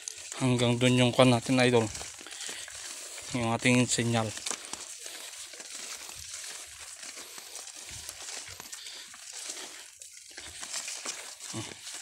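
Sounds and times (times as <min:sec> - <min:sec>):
corn leaves rustling: 0:00.0 - 0:12.0
soft dull footsteps: 0:00.0 - 0:12.0.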